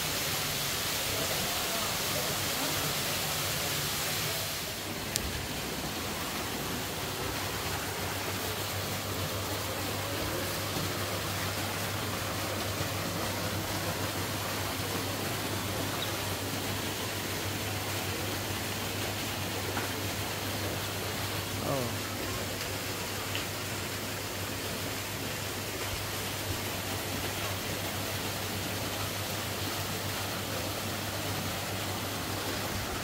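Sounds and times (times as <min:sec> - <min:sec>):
waterfall splashing into pool: 0:00.0 - 0:33.0.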